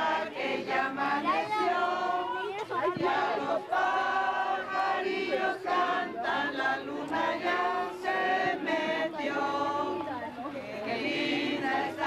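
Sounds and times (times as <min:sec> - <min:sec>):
group singing in unison: 0:00.0 - 0:12.0.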